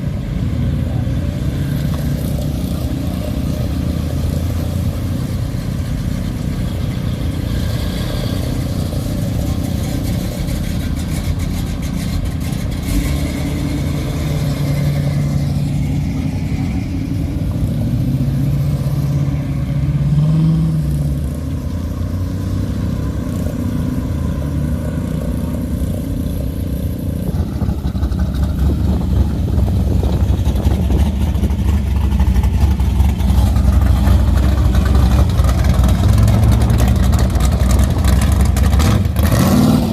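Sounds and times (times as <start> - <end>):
car engines revving: 0.0 - 39.9
deep loud engine: 0.0 - 39.9.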